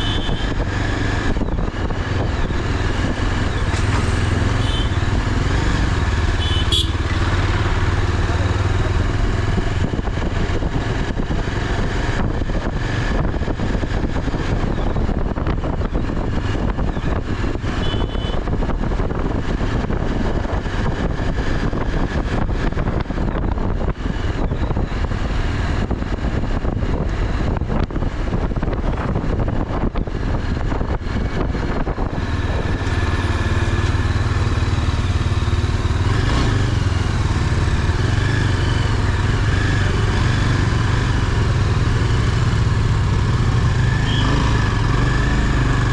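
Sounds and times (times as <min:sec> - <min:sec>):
motorcycle engine running: 0:00.0 - 0:45.9
wind buffeting microphone: 0:07.2 - 0:17.8, 0:18.4 - 0:45.6.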